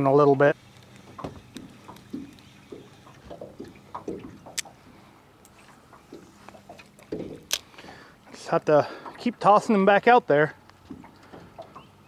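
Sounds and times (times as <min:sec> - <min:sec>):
waves lapping against boat: 0:00.0 - 0:12.0.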